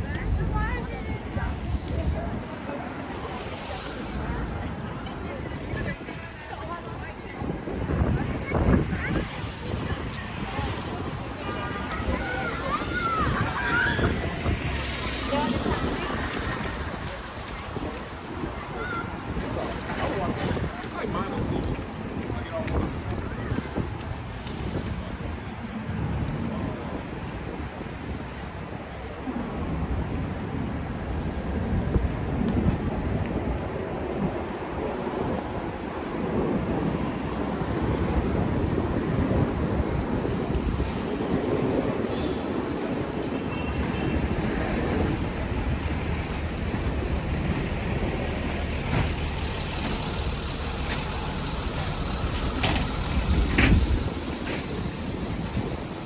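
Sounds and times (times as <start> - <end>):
vehicles passing with low rumble: 0.0 - 56.0.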